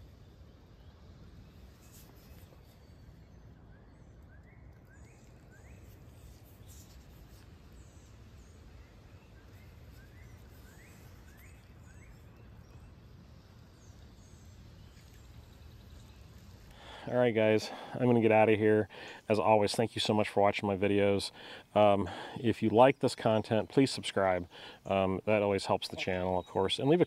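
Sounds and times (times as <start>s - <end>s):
low background noise: 0.0s - 27.0s
birds chirping: 0.2s - 27.0s.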